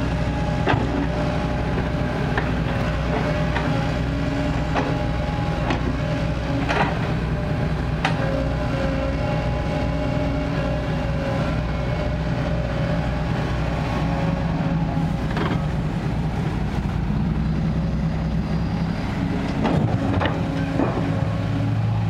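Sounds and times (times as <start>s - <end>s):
excavator diesel engine humming: 0.0s - 22.0s.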